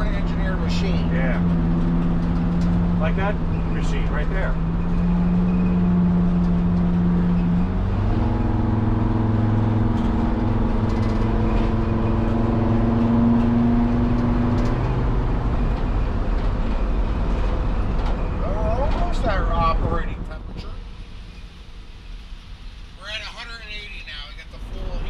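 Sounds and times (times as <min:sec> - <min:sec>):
diesel engine driving: 0:00.0 - 0:25.0
road noise: 0:00.0 - 0:25.0.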